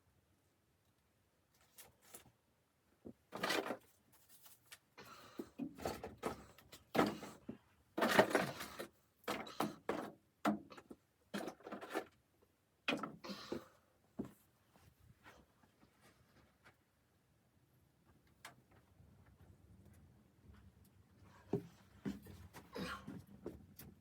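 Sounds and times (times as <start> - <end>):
rustling and knocking of handled things: 3.0 - 17.0, 18.0 - 24.0.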